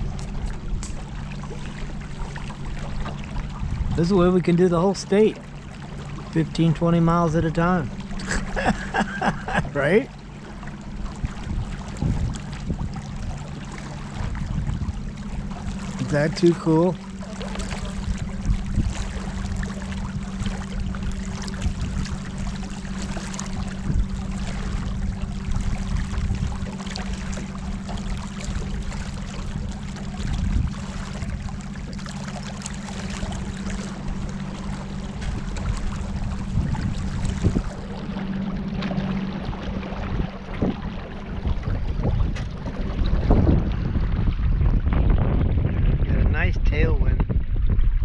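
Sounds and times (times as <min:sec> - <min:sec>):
wind on microphone: 0:00.0 - 0:04.6, 0:11.0 - 0:48.0
boat engine hum: 0:00.0 - 0:48.0
water splashing and rushing: 0:00.0 - 0:48.0.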